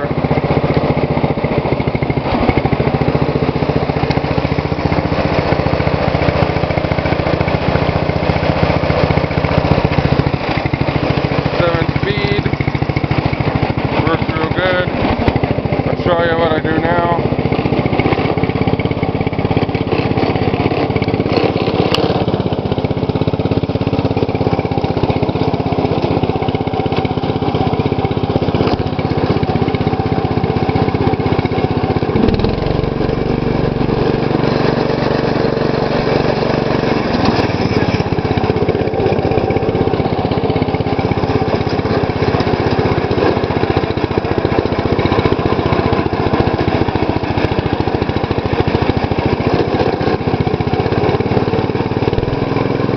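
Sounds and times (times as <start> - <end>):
lawn tractor engine running: 0.0 - 52.9.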